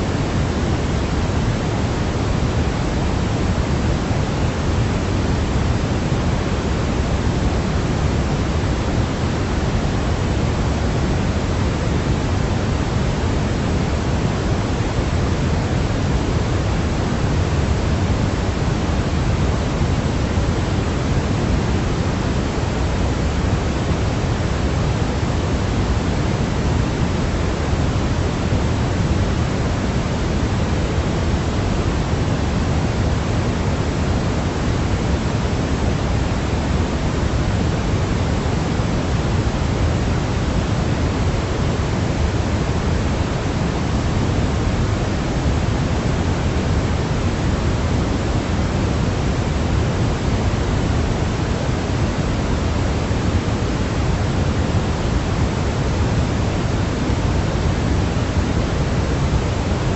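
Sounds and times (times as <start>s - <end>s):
steady low hiss: 0.0s - 59.9s.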